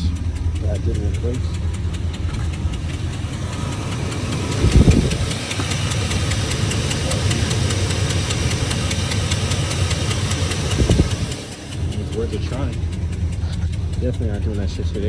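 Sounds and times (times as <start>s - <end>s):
low engine thump: 0.0s - 14.9s
car engine idling with ticking: 0.0s - 15.0s.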